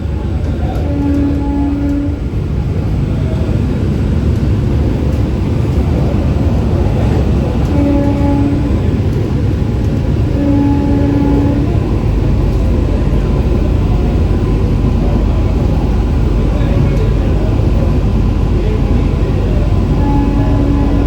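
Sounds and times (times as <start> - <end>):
train rumble inside coach: 0.0 - 21.0.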